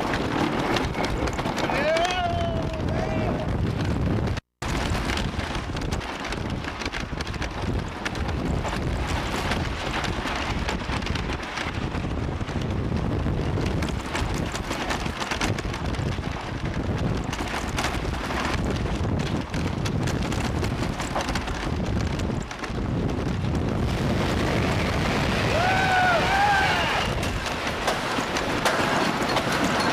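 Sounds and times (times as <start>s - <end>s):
roller coaster clattering on track: 0.0s - 29.9s
wind buffeting microphone: 0.0s - 29.9s.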